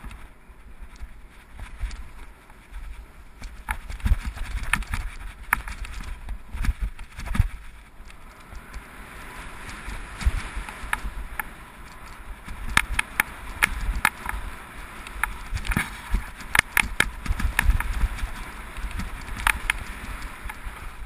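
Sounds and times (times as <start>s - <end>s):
bike rattling and knocking: 0.0s - 21.0s
bike tyres rumbling over gravel: 0.0s - 21.0s.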